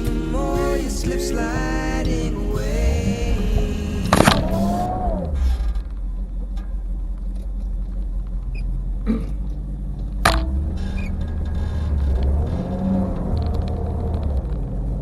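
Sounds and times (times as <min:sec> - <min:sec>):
tyres on snowy road: 0:00.0 - 0:15.0
car engine rumble from inside: 0:02.6 - 0:15.0.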